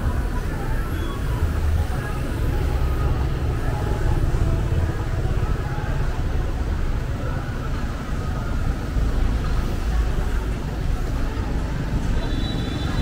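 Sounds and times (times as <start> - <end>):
street traffic engine rumble: 0.0 - 13.0.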